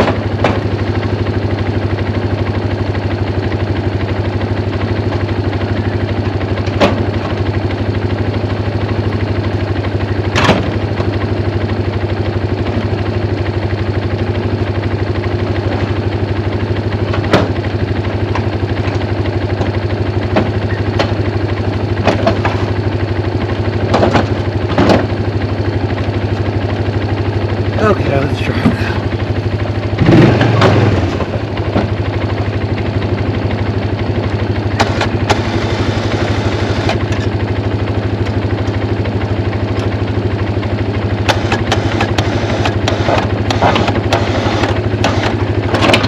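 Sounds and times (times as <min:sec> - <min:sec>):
vehicle engine idling: 0:00.0 - 0:46.0.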